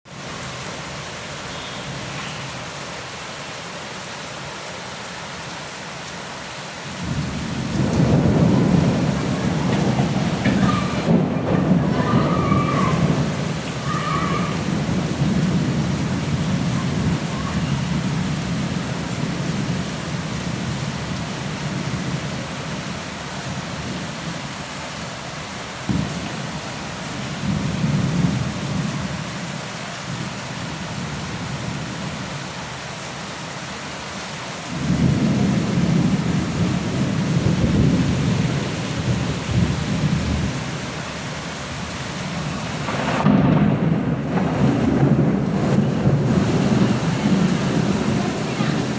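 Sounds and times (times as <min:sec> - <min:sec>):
steady rain falling: 0:00.1 - 0:48.9.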